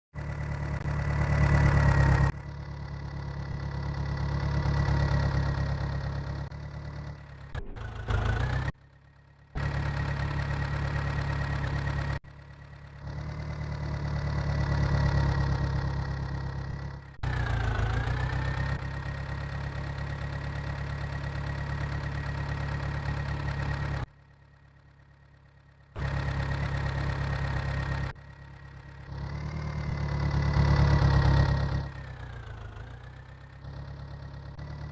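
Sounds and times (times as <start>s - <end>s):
engine idling: 0.2s - 34.9s.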